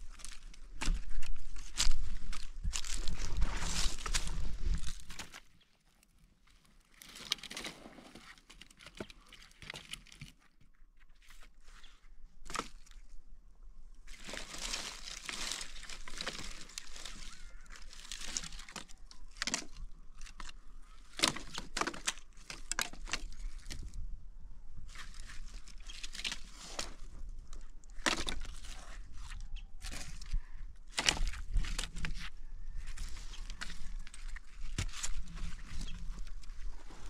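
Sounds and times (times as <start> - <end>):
rustling and crinkling: 0.0 - 13.2, 14.0 - 24.0, 24.8 - 37.0.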